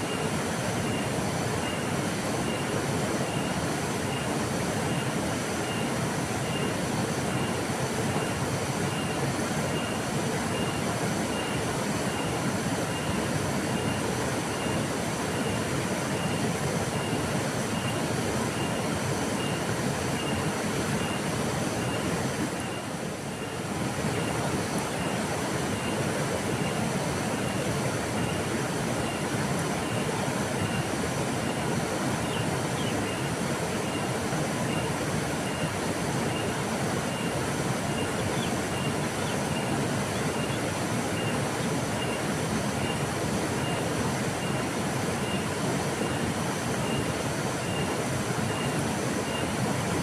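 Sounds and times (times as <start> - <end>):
river water rushing: 0.0 - 50.0.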